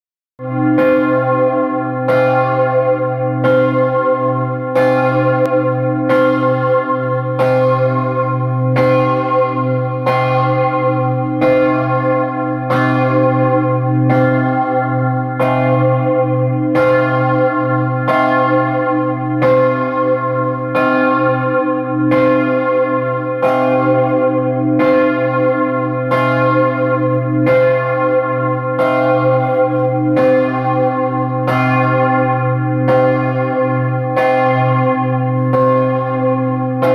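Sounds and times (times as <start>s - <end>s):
large bell ringing: 0.4s - 36.9s.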